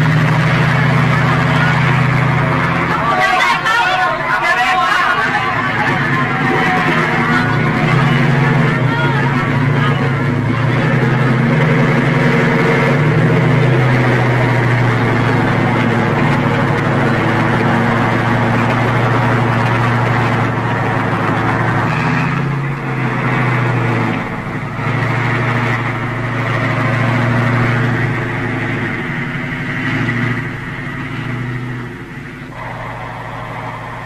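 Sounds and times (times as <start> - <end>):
tank engine drone: 0.0 - 34.0.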